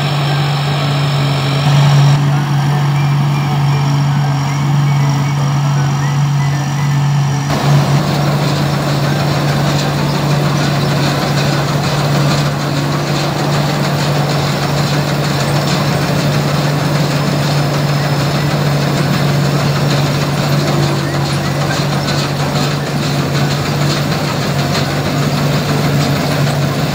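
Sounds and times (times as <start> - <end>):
combine harvester engine hum: 0.0 - 26.9
machine cutting and threshing rice: 0.0 - 26.9.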